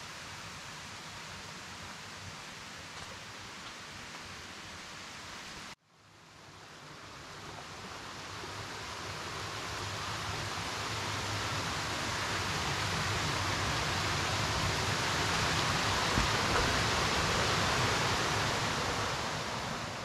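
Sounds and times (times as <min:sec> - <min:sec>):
mountain creek rushing: 0:00.0 - 0:20.0.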